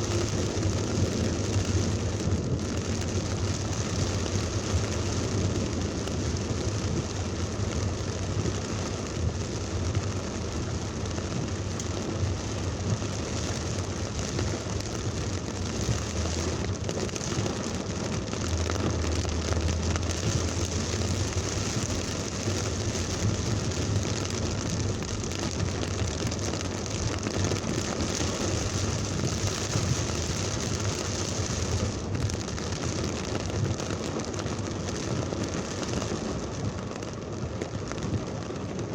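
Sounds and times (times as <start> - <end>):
low rumble: 0.0 - 36.2
heavy rain pouring: 0.0 - 38.9.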